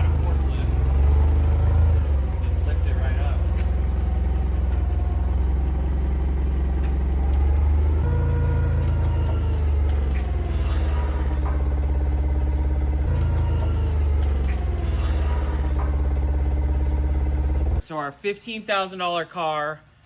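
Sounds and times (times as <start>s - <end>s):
engine humming: 0.0s - 17.8s.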